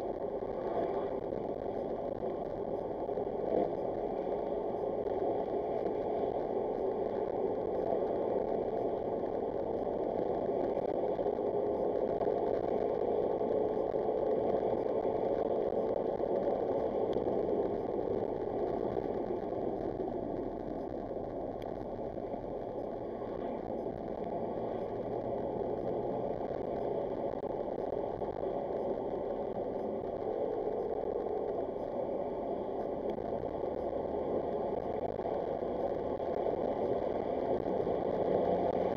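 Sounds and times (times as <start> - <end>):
car engine hum: 0.0 - 38.9
road noise inside car: 0.0 - 38.9.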